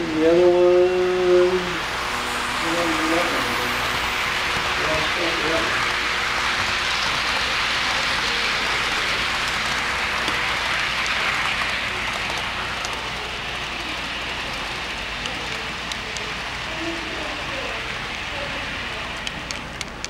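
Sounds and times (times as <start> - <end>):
model train wheels rolling on rails: 0.0 - 20.0.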